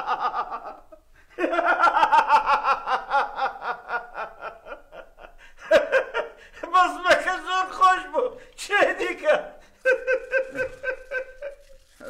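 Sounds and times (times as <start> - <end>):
man laughing: 0.0 - 8.0, 9.0 - 12.0.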